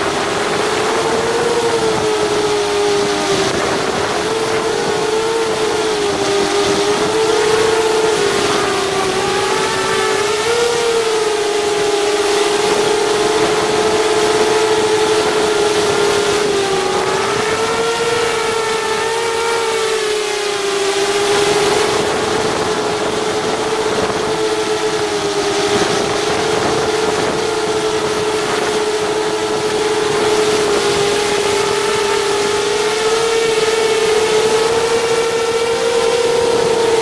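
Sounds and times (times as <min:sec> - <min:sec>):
quadcopter propellers buzzing whine: 0:00.0 - 0:37.0.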